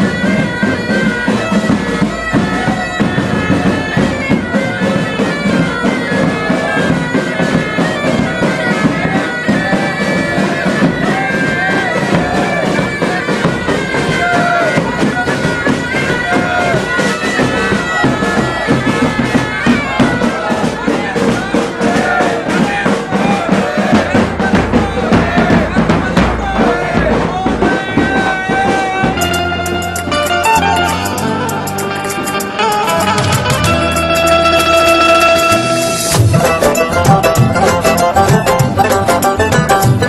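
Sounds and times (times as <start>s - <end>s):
bagpipes playing: 0.0s - 40.0s
bass drum beat: 0.0s - 40.0s.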